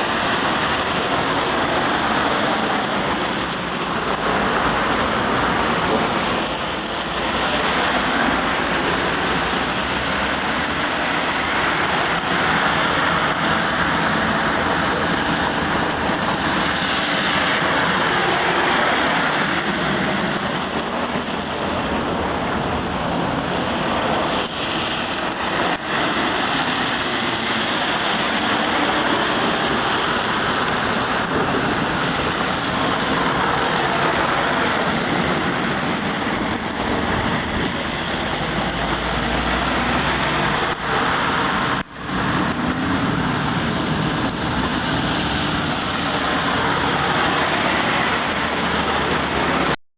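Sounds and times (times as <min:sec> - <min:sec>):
cars passing on wet road: 0:00.0 - 0:49.8.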